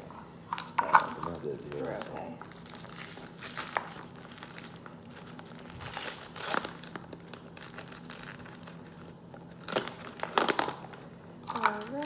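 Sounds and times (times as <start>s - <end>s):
steady low hum: 0.0s - 12.0s
rustling and crinkling on tabletop: 0.5s - 12.0s.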